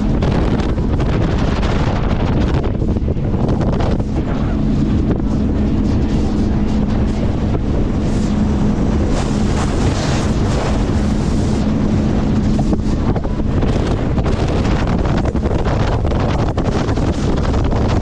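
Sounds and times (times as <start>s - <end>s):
boat engine drone: 0.0s - 18.0s
water rushing along hull: 0.0s - 18.0s
wind buffeting microphone: 0.0s - 18.0s.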